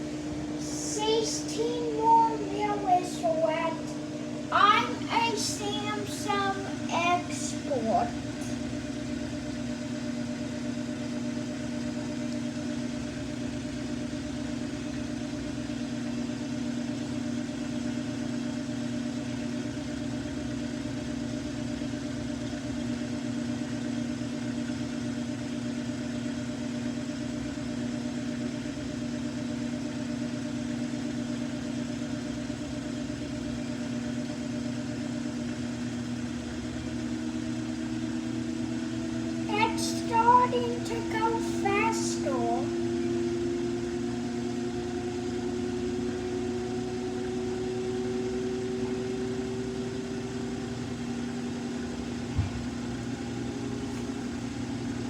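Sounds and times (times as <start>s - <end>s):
washing machine drum spinning: 0.0s - 55.0s.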